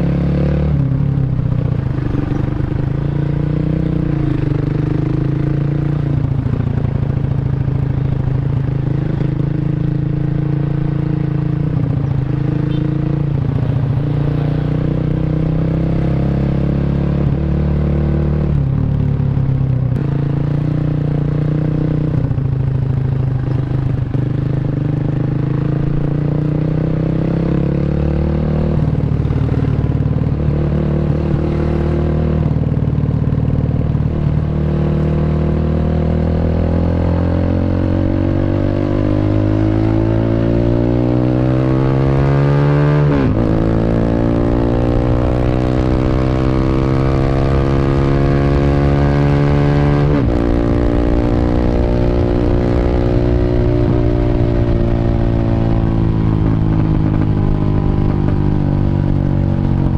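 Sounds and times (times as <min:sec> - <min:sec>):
motorcycle engine riding: 0:00.0 - 0:59.9.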